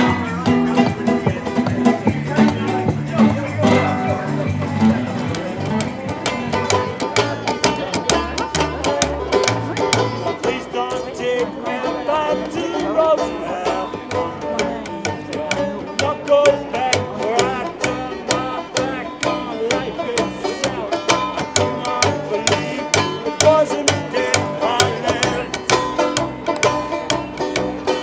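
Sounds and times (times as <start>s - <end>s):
acoustic string-band music: 0.0s - 28.0s.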